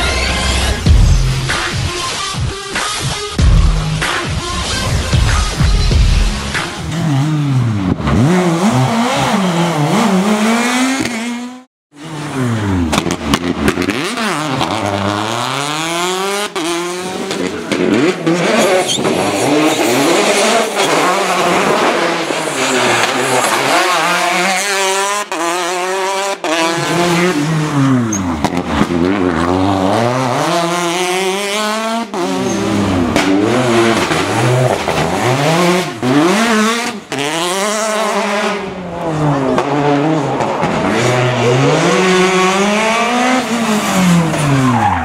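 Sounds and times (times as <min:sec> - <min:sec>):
rally car engines revving: 0:06.2 - 0:45.0.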